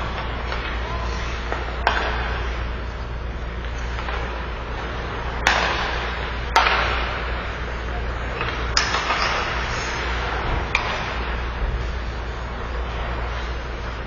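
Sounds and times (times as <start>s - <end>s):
arena hum: 0.0s - 14.0s
hockey sticks hitting puck: 0.0s - 14.0s.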